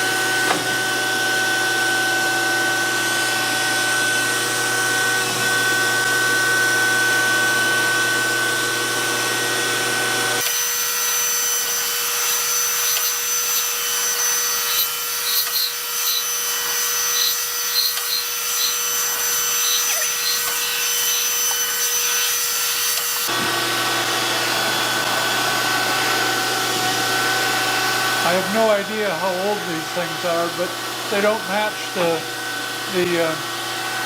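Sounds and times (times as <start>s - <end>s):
surface grinder whining: 0.0s - 34.0s.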